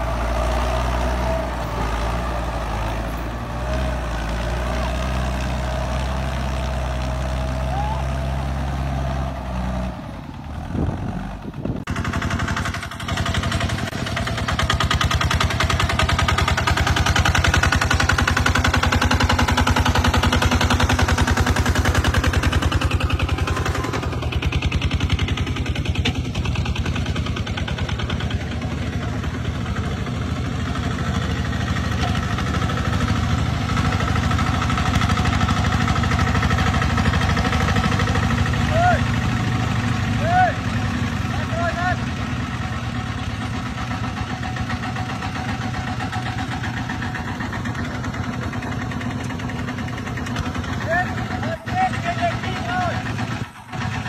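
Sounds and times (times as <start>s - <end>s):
diesel engine chugging: 0.0s - 54.0s
tractor engine running: 0.0s - 54.0s.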